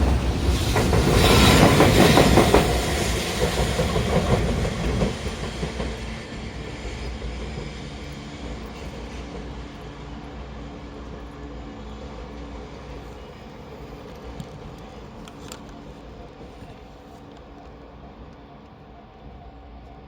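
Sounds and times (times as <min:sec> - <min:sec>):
train wheels clattering over rail joints: 0:00.0 - 0:17.6.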